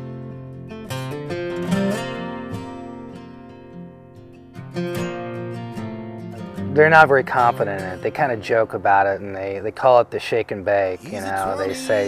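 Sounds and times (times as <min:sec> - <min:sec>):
acoustic guitar picking and strumming: 0:00.0 - 0:09.8, 0:11.0 - 0:12.0.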